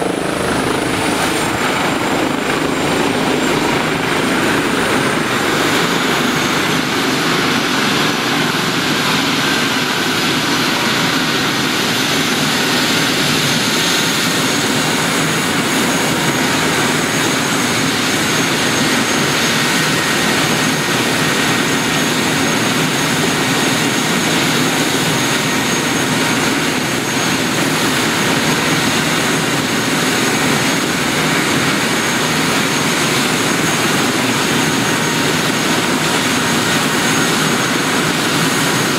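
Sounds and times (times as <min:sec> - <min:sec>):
helicopter engines and rotor: 0:00.0 - 0:38.9
high turbine whine: 0:00.0 - 0:38.9.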